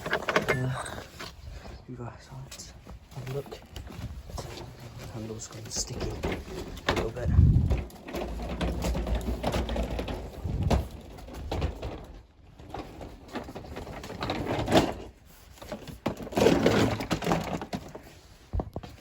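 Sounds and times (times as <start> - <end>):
plastic clatter: 0.0 - 1.4, 3.2 - 19.0
vacuum cleaner being handled: 0.0 - 1.4, 3.2 - 19.0.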